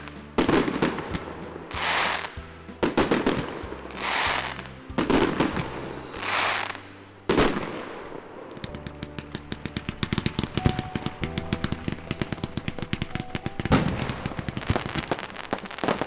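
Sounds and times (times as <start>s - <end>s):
background music: 0.0s - 16.0s
firework bangs: 0.0s - 16.0s
firework crackling: 0.0s - 16.0s
firework hiss: 0.0s - 16.0s.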